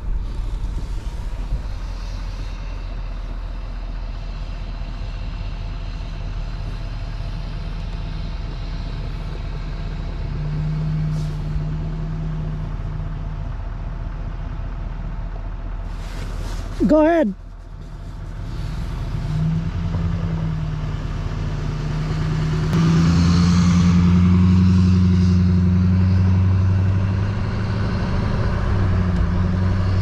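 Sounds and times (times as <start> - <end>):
truck engine rumbling: 0.0 - 30.0.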